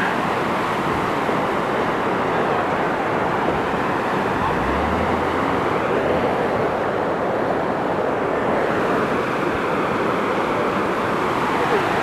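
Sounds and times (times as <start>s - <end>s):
floodwater rushing over rocks: 0.0s - 12.0s.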